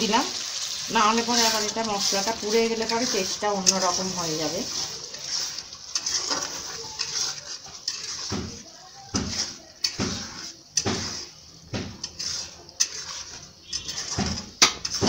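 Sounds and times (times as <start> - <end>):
spatula scraping pan: 0.0 - 15.0
spice paste sizzling: 0.0 - 15.0.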